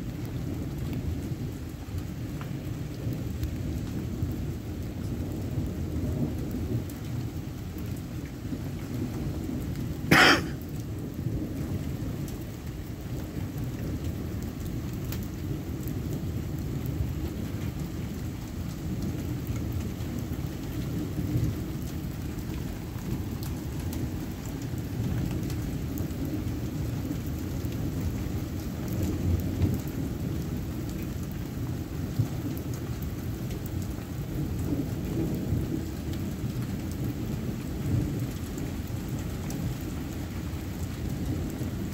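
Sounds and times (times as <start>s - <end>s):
steady rain: 0.0s - 41.9s
rolling thunder rumble: 2.5s - 41.9s.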